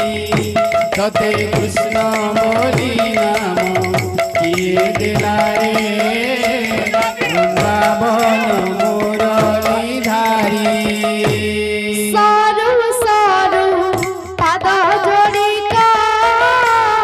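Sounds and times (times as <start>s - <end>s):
jingling metal percussion: 0.0s - 12.1s, 13.9s - 17.0s.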